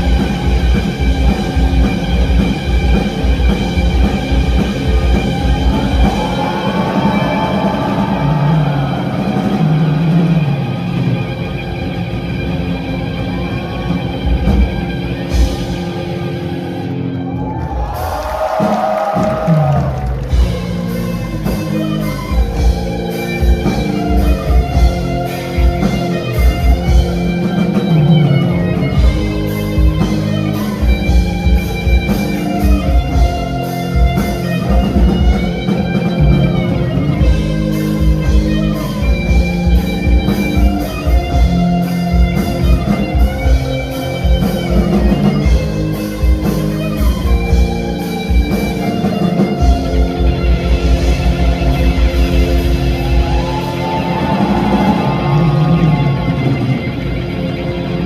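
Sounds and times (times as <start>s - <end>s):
drum kit beat: 0.0s - 11.5s, 17.7s - 56.2s
bass: 0.0s - 58.0s
electric guitars: 0.0s - 58.0s.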